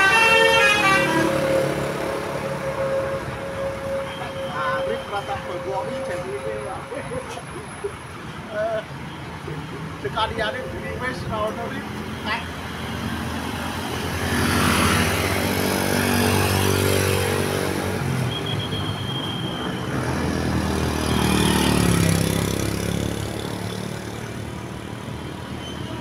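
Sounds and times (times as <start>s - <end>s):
heavy vehicles passing: 0.0s - 26.0s.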